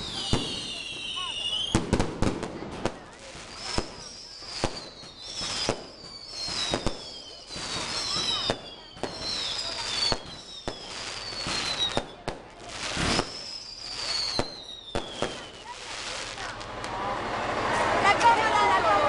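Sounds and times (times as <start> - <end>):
firecracker bangs: 0.0 - 17.0
whistling fireworks: 0.0 - 18.4.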